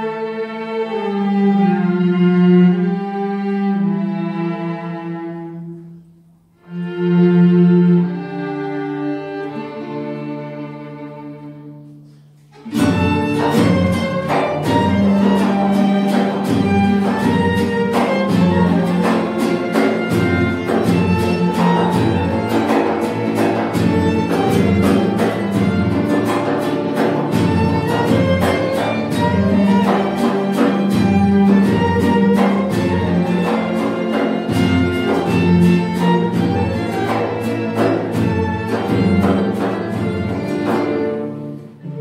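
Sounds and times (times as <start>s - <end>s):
folk ensemble of strings and guitars: 0.0s - 42.0s.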